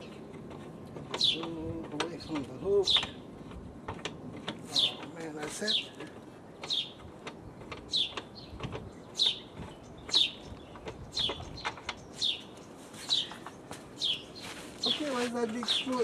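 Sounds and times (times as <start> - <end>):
bird chirping: 0.0 - 3.4, 4.6 - 16.0.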